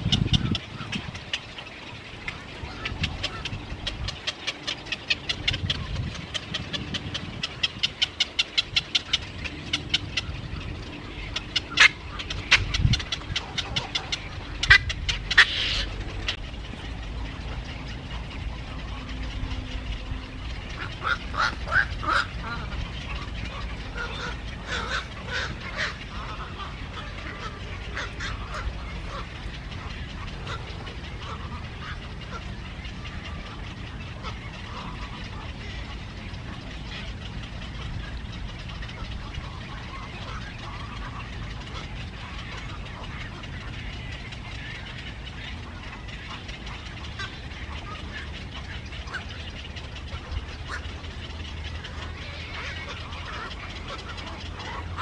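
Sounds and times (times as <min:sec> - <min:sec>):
birds calling: 0:00.0 - 0:55.0
low background noise: 0:00.0 - 0:55.0.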